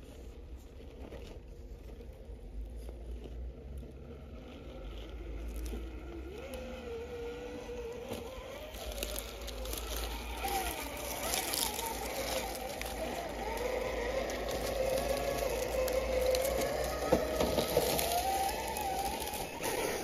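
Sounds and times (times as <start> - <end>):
motor and gears whining: 0.0 - 20.0
tires scraping over rocks: 0.0 - 20.0.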